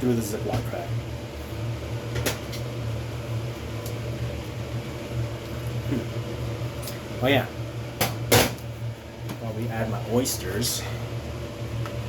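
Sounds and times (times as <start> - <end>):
appliance fan humming: 0.0 - 12.0.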